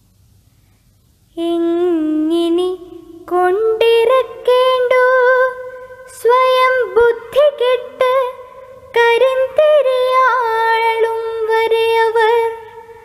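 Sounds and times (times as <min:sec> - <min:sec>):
faint low hum: 0:00.0 - 0:13.0
woman singing chanted verse: 0:01.3 - 0:13.0.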